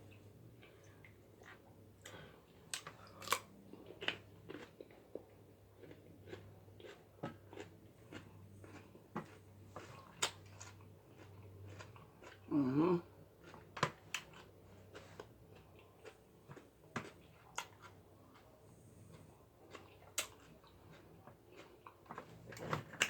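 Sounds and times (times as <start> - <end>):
faint low hum: 0.0 - 23.0
person chewing crunchy food: 0.0 - 23.0.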